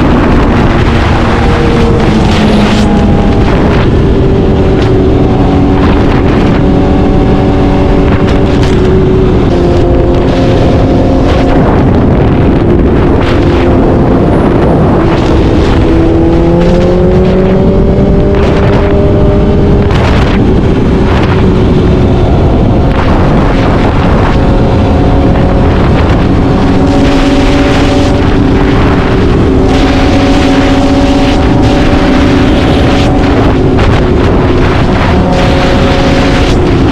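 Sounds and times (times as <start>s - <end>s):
motorcycle engine at speed: 0.0s - 36.9s
wind rush on microphone: 0.0s - 36.9s.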